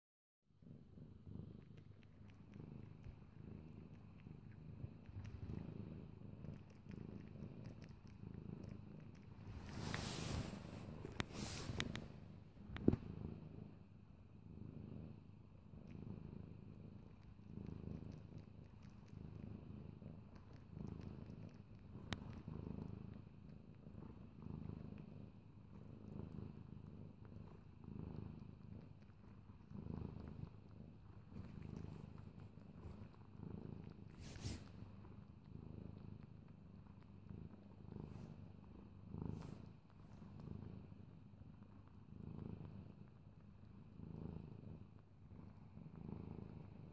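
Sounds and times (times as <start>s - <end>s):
cat purring: 0.5s - 46.9s.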